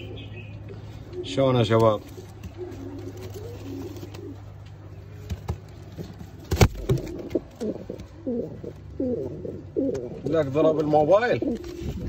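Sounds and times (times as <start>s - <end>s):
pigeon cooing: 0.0s - 10.3s, 11.2s - 12.0s.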